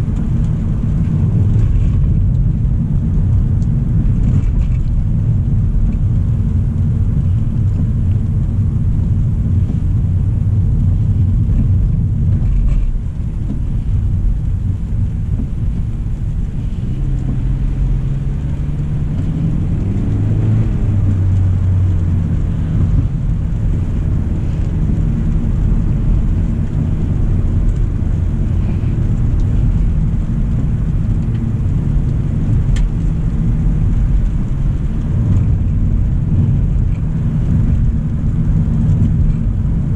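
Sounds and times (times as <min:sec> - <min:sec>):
car engine hum: 0:00.0 - 0:39.9
road and tyre rumble: 0:00.0 - 0:39.9.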